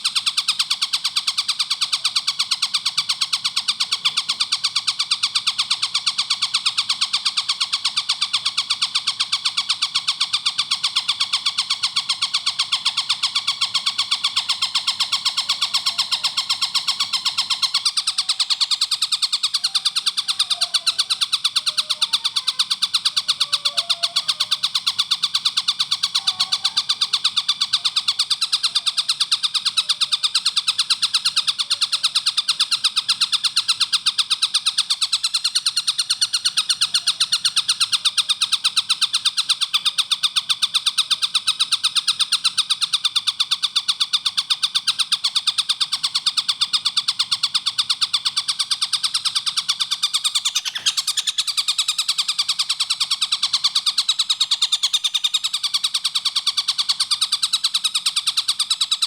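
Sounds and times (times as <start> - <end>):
kingfisher rattling call: 0.0 - 59.0.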